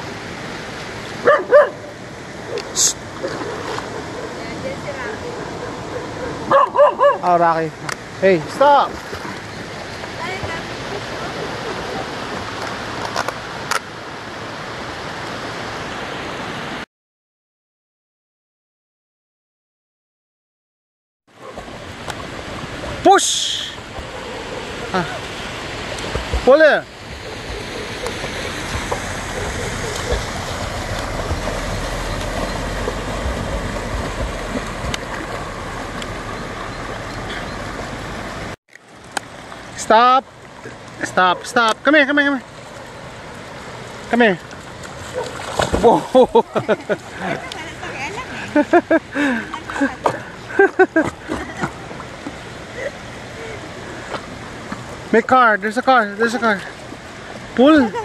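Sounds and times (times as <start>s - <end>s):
river water rushing: 0.0s - 16.8s, 21.4s - 58.0s.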